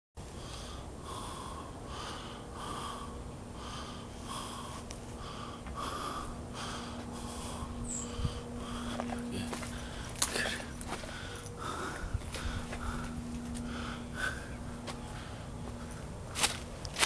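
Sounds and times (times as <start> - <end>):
person panting: 0.3 - 16.3.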